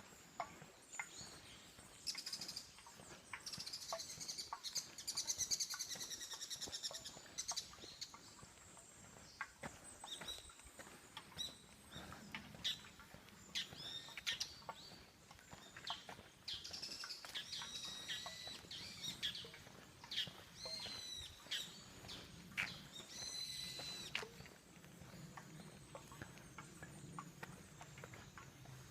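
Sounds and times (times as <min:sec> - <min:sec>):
wild birds chirping and singing: 0:00.0 - 0:28.9.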